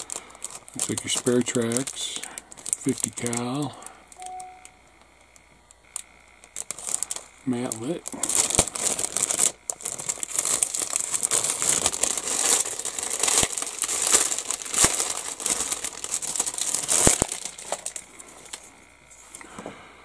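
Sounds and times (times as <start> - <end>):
plastic bag crinkling: 0.0 - 4.7, 5.9 - 18.6.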